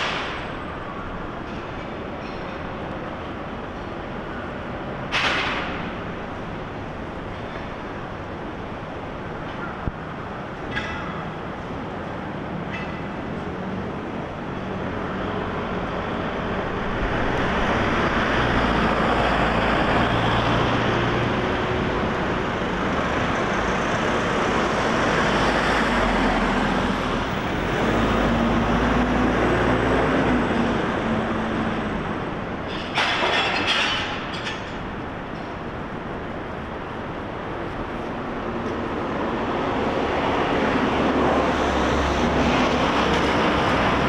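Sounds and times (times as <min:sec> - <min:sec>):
heavy vehicles rumbling past: 0:00.0 - 0:44.0.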